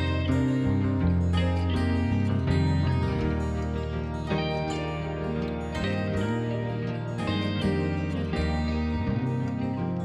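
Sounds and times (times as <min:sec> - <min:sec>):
soft instrumental music plucked strings: 0:00.0 - 0:10.0.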